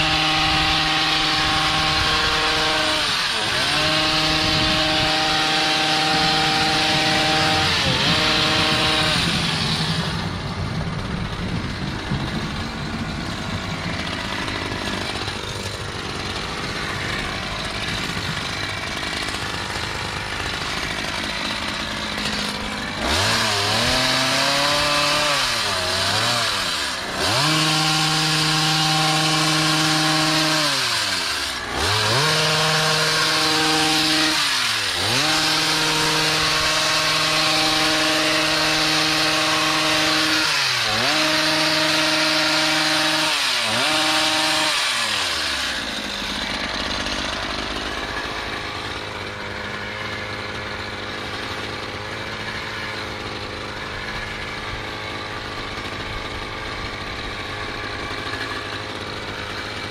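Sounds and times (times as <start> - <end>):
hedge trimmer engine revving: 0.0 - 59.9.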